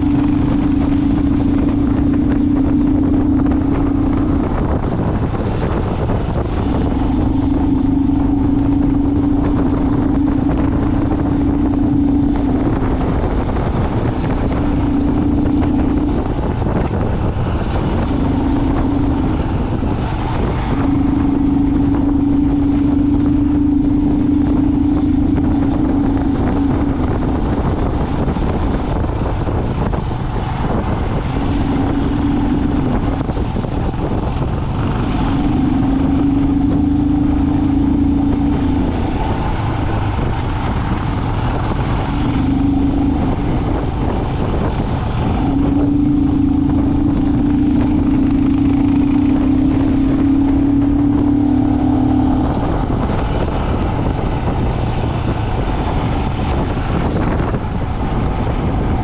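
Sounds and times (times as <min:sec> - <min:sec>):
low road rumble: 0:00.0 - 0:59.0
vehicle engine drone: 0:00.0 - 0:59.0
wind noise: 0:00.0 - 0:59.0.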